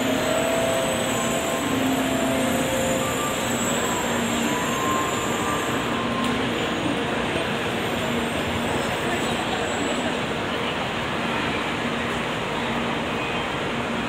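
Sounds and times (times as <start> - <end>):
passengers walking: 0.0 - 14.0
stationary train equipment noise: 0.0 - 14.0.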